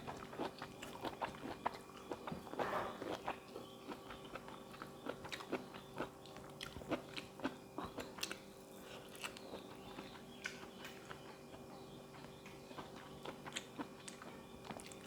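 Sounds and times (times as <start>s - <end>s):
person chewing and crunching: 0.0s - 15.0s.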